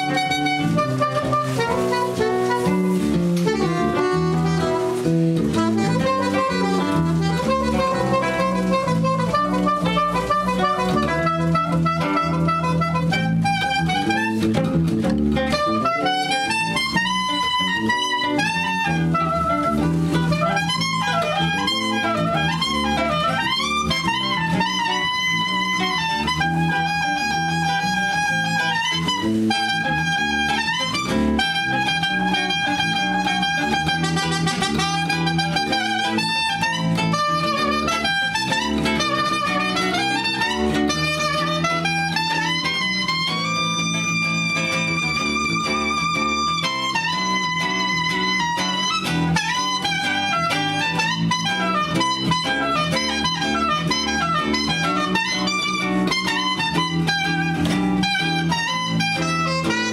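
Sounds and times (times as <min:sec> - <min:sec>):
acoustic guitar: 0:00.0 - 0:59.9
bass guitar: 0:00.0 - 0:59.9
saxophone melody: 0:00.0 - 0:59.9.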